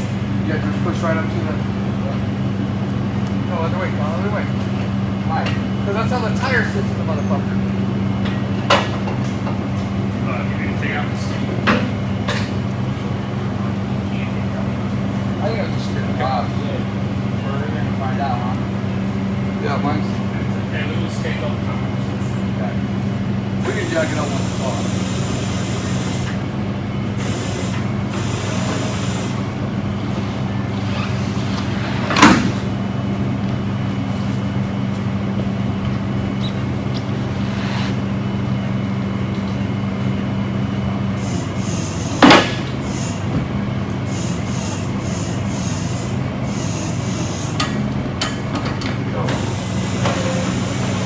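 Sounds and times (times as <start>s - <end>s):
truck engine running: 0.0s - 51.0s.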